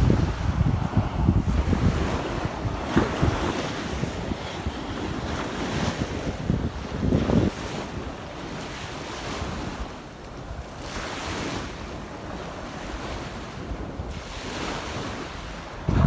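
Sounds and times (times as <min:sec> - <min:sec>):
small waves washing on beach: 0:00.0 - 0:16.0
wind rumbling on microphone: 0:00.0 - 0:16.0.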